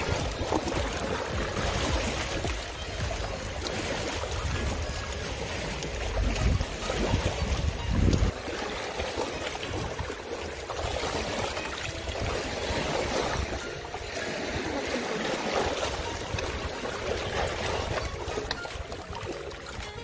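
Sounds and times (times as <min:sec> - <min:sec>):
water lapping among boulders: 0:00.0 - 0:20.0.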